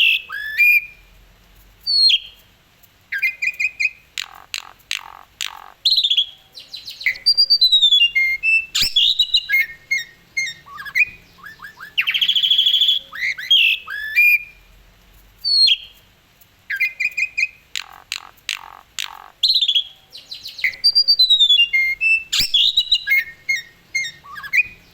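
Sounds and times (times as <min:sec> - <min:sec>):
starling singing: 0:00.0 - 0:01.0, 0:03.1 - 0:14.6, 0:16.7 - 0:24.9.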